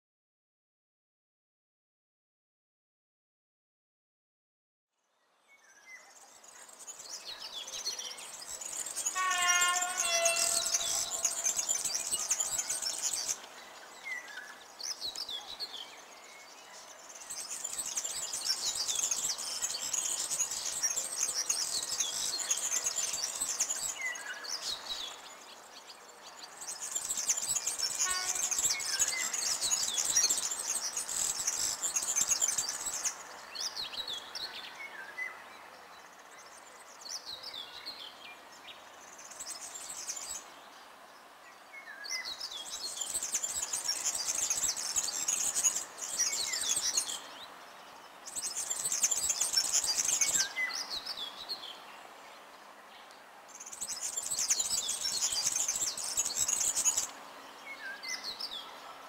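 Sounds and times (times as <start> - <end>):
songbird singing: 5.1 - 59.0.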